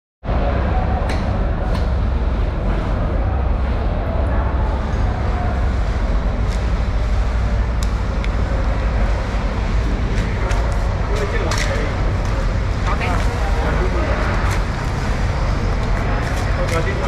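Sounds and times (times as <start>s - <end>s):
low background rumble: 0.2s - 17.0s.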